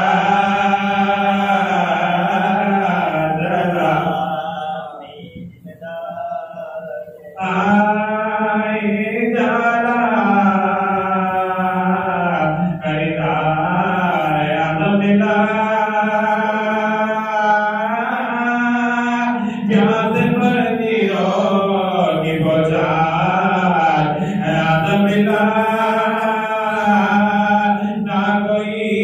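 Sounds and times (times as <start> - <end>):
man chanting: 0.0 - 29.0.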